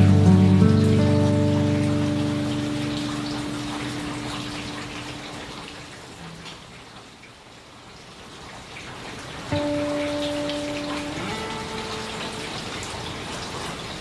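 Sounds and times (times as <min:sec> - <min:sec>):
raindrops ticking: 0:00.0 - 0:14.0
steady rain: 0:00.0 - 0:14.0.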